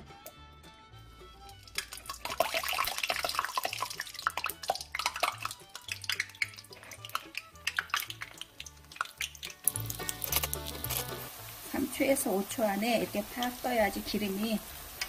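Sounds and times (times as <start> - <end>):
background music: 0.0 - 15.0
rice crust frying in oil: 1.4 - 15.0.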